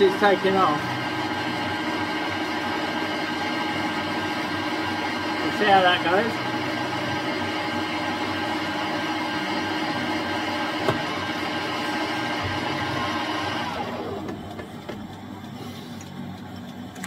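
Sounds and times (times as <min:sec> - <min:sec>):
lathe running down: 0:00.0 - 0:15.5.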